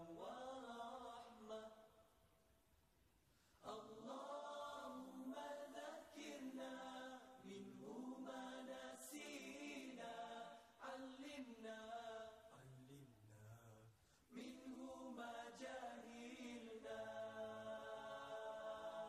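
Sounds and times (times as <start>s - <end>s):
voices chanting together: 0.0s - 2.0s, 3.6s - 13.0s, 14.3s - 19.0s.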